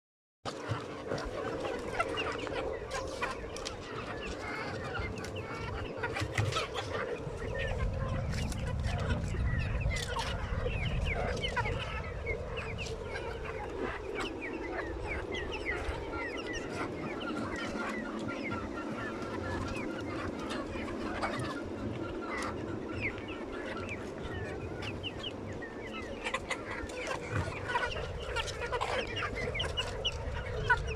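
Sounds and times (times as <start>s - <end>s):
chickens clucking: 0.5s - 30.9s.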